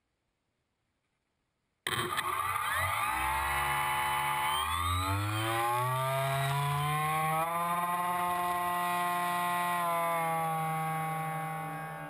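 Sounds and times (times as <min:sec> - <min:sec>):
electric motor and propeller whine: 0:01.9 - 0:12.0.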